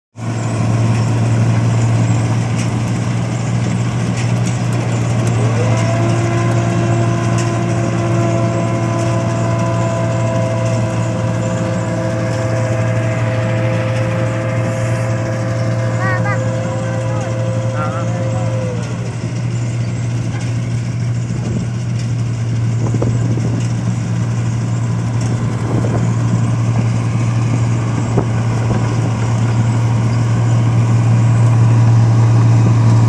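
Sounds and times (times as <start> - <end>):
machine engine humming: 0.2 - 33.0
machine whine rising: 4.6 - 33.0.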